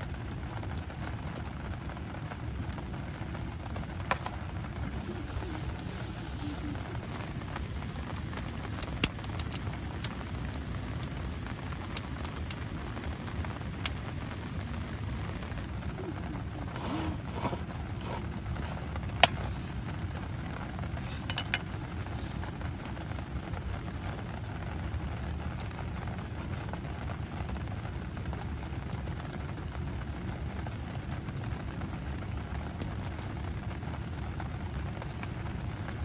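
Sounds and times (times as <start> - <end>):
campfire popping and crackling: 0.0 - 36.0
steady rain falling: 0.0 - 36.0.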